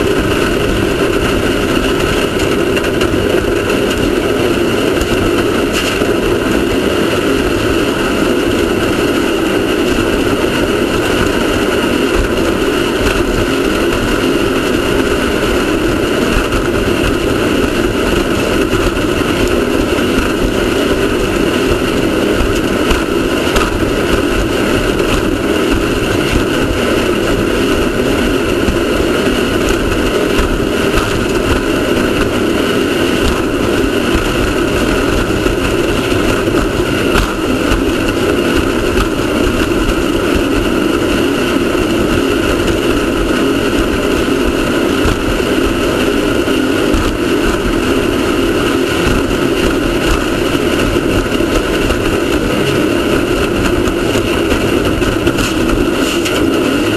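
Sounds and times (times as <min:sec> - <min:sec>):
race car engine running hard: 0:00.0 - 0:56.9.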